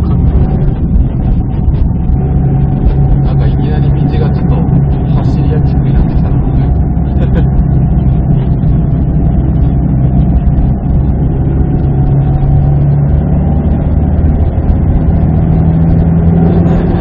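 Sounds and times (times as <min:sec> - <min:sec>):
car engine revving: 0:00.0 - 0:17.0
road noise: 0:00.0 - 0:17.0.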